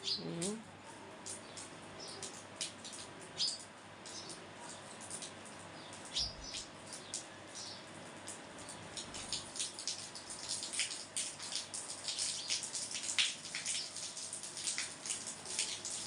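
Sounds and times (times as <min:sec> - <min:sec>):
water drops pattering: 0:01.2 - 0:07.4, 0:08.2 - 0:16.0.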